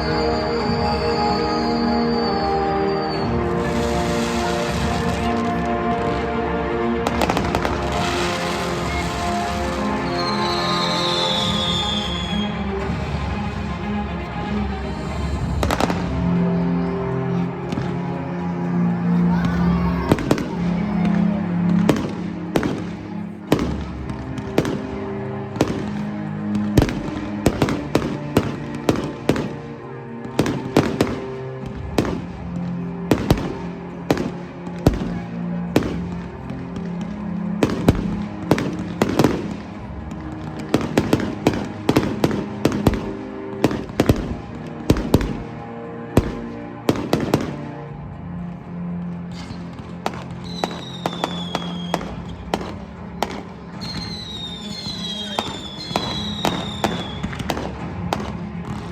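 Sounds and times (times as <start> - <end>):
fireworks bangs and crackles: 0.0 - 18.4, 19.1 - 58.9
music with low chords: 0.0 - 58.9.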